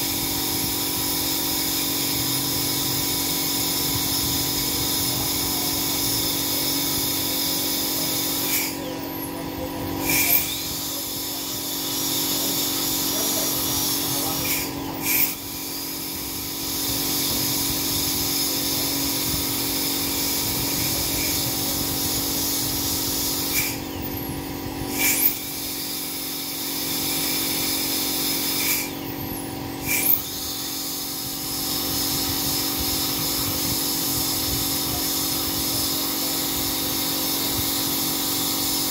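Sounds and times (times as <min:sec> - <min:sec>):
dental drill whining: 0:00.0 - 0:38.9.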